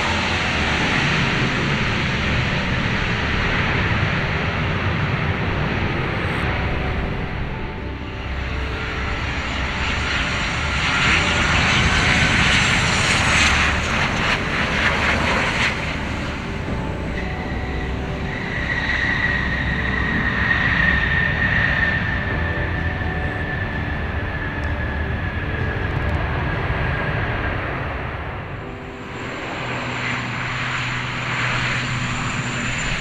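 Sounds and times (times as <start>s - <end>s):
jet airliner engine rush: 0.0s - 33.0s
jet engine whine: 0.0s - 33.0s.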